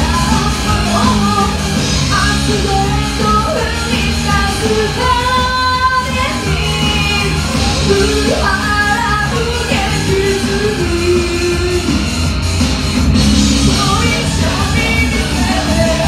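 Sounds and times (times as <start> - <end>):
woman singing into a microphone: 0.0 - 11.9, 13.7 - 16.0
loud backing music: 0.0 - 16.0.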